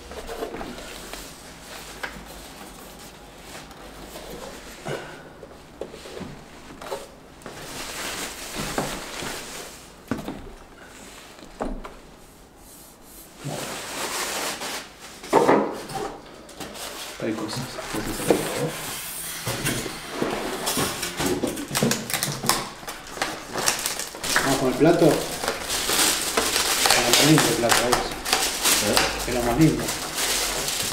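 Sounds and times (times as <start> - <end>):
plastic wrapping rustling: 0.0 - 4.8, 5.6 - 11.4, 16.4 - 30.9.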